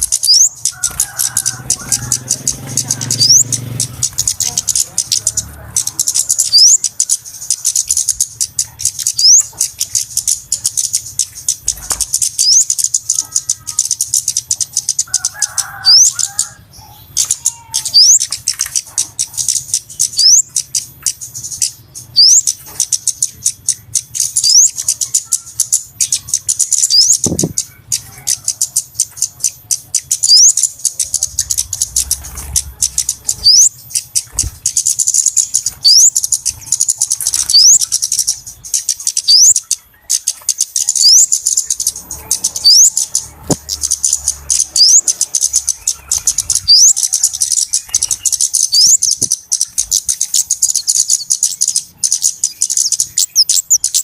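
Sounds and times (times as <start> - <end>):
high-pitched ticking bird chatter: 0.0 - 54.0.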